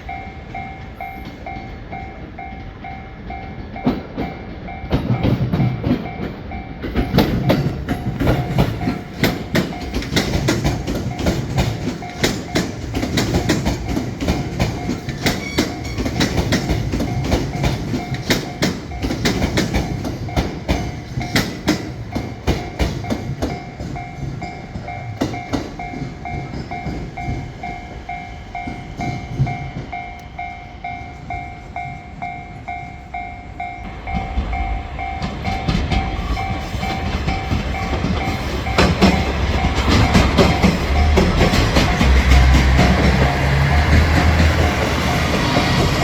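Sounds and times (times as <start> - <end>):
crossing warning bell ringing: 0.0 - 46.0
low train rumble: 0.0 - 46.0
train wheels clicking over rail joints: 0.0 - 46.0.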